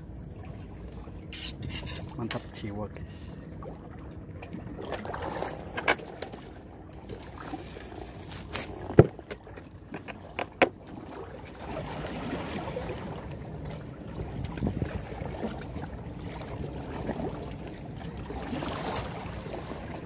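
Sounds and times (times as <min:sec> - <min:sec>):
sea and wind noise: 0:00.0 - 0:20.0.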